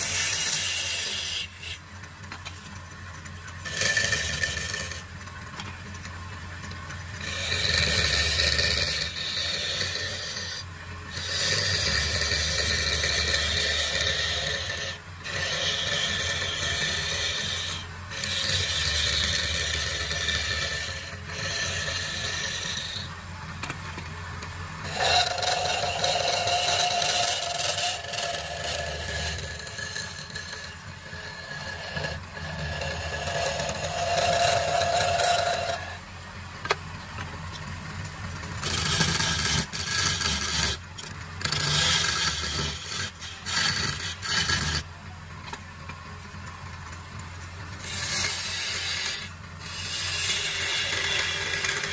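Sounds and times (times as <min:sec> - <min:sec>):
wood lathe humming: 0:00.0 - 0:02.0, 0:03.6 - 0:05.7, 0:06.3 - 0:23.7, 0:24.8 - 0:36.1, 0:38.6 - 0:45.2, 0:47.8 - 0:51.9
chisel scraping spinning wood: 0:00.0 - 0:47.1, 0:47.8 - 0:51.9
steady whine: 0:00.0 - 0:51.9.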